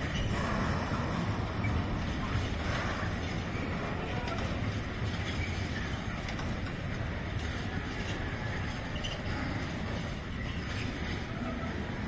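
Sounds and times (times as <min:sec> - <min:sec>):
train wheels rolling on rails: 0:00.0 - 0:12.0.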